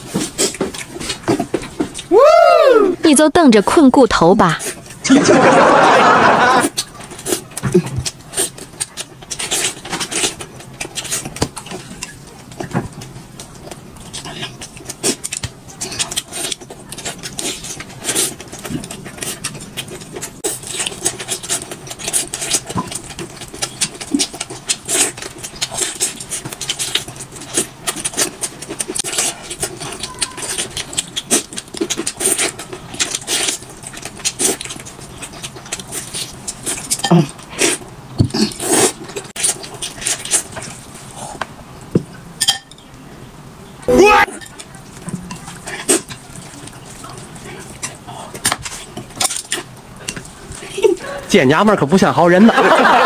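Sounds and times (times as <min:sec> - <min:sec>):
wet chewing and lip-smacking: 0:00.0 - 0:02.1, 0:06.6 - 0:41.5, 0:44.4 - 0:51.0.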